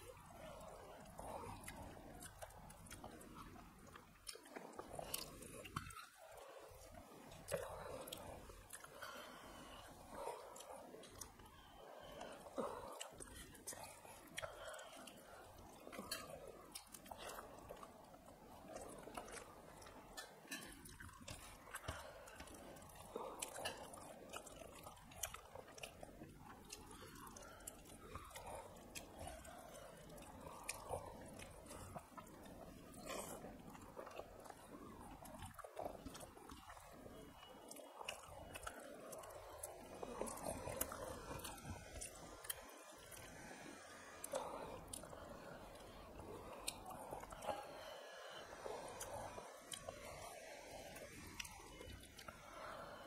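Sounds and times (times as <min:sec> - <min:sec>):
people chewing and eating: 0:00.0 - 0:53.0.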